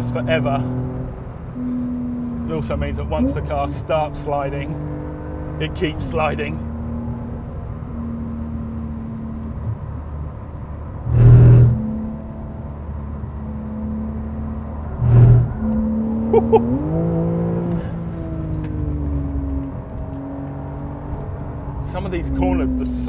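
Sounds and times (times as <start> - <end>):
car engine from inside cabin: 0.0 - 23.0.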